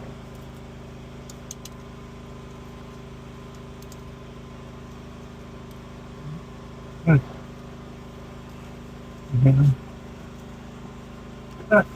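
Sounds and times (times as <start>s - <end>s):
low machine hum: 0.0s - 11.9s.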